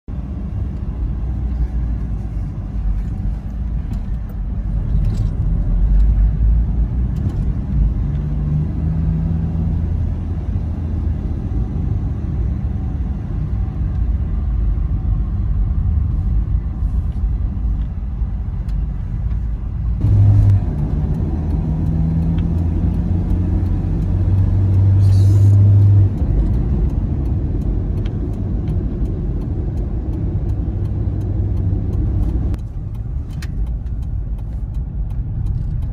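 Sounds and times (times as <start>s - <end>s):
car engine and tyres rumbling: 0.1s - 35.9s.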